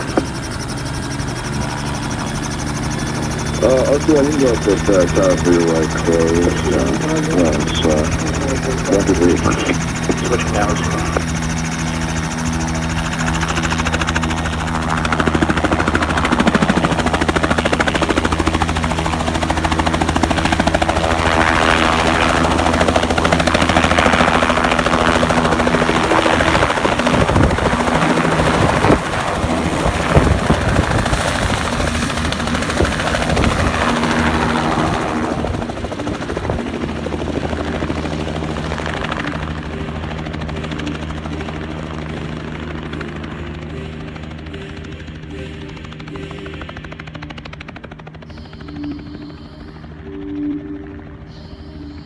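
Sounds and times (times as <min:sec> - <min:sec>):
helicopter rotors beating: 0:00.0 - 0:52.0.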